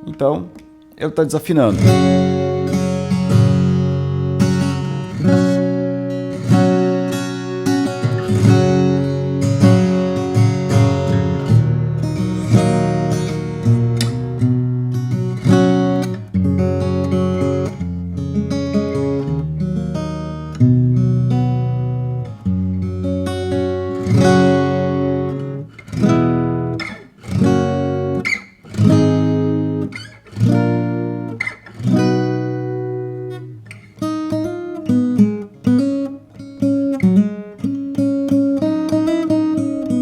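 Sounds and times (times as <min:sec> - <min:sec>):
guitar picked notes: 0:00.0 - 0:40.0
acoustic guitar chords strummed: 0:01.6 - 0:40.0.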